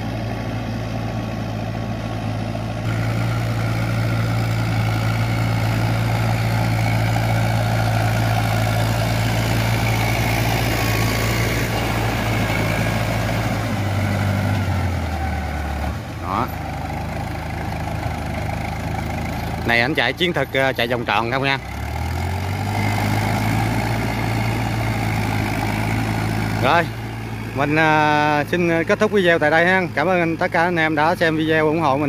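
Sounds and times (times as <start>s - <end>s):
tractor engine running under load: 0.0s - 32.0s.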